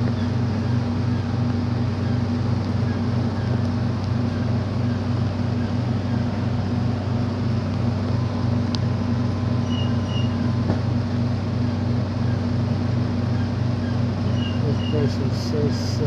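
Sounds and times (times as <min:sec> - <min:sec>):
large engine idling: 0:00.0 - 0:16.0.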